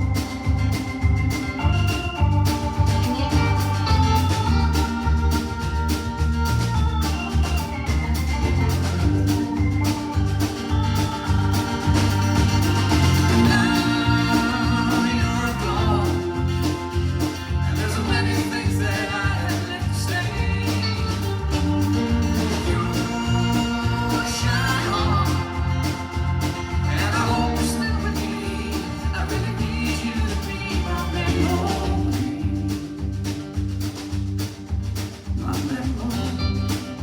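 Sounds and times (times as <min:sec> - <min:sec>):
country-rock band playing live: 0:00.0 - 0:37.0.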